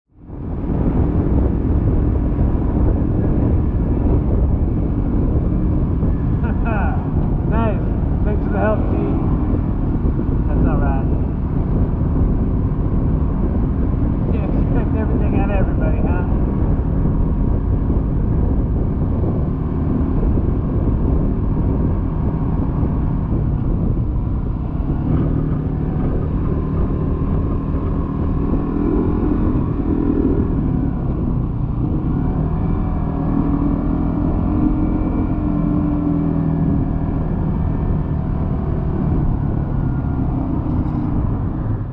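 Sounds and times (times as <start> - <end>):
vehicle engine and road noise: 0.0 - 41.9.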